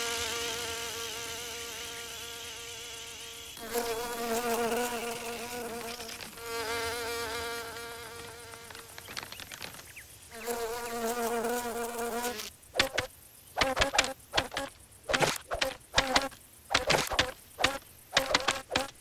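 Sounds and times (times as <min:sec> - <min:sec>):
cartoon insect buzzing: 0:00.0 - 0:09.2, 0:10.3 - 0:19.0.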